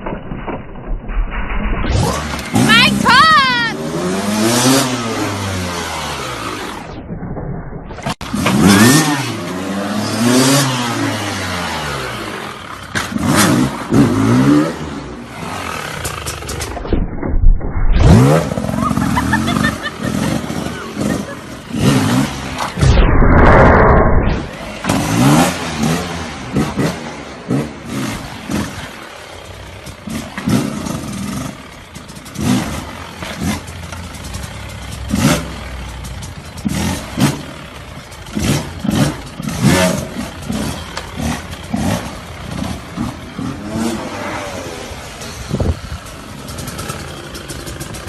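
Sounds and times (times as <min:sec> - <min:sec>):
dirt bike engines revving: 0:02.0 - 0:07.0, 0:08.2 - 0:16.8, 0:18.0 - 0:22.8, 0:23.7 - 0:48.0.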